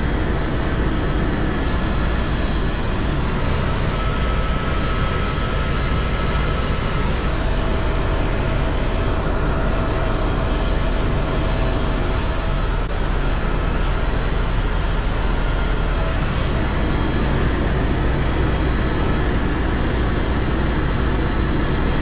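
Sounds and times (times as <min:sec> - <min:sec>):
faint steady tones: 0:00.0 - 0:22.0
helicopter engine and rotors: 0:00.0 - 0:22.0.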